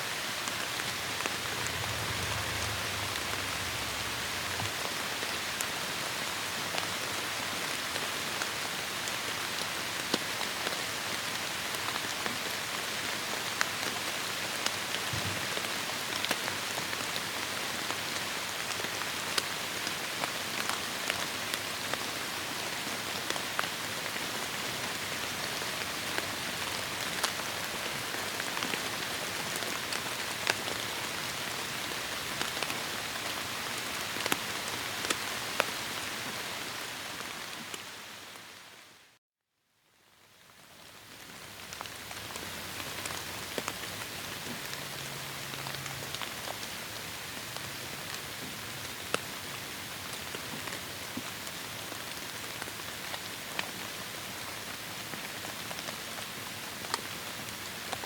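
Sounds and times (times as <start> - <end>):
heavy rain on foliage: 0.0 - 39.2, 40.0 - 58.0.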